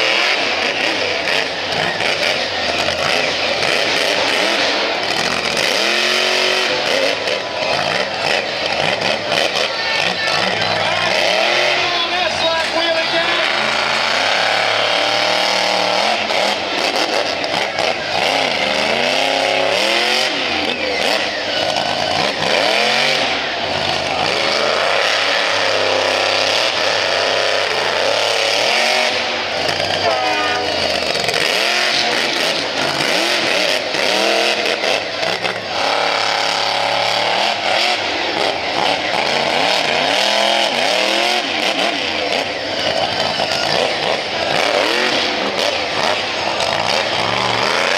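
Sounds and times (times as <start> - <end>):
monster truck engine revving: 0.0 - 47.9.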